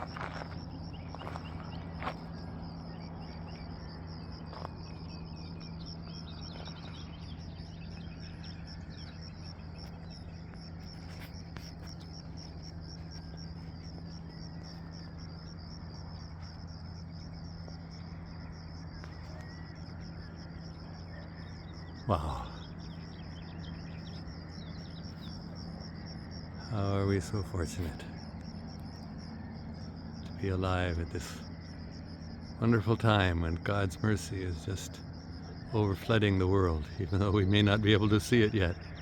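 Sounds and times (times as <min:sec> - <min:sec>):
low steady hum: 0:00.0 - 0:39.0
small birds chirping: 0:00.0 - 0:39.0.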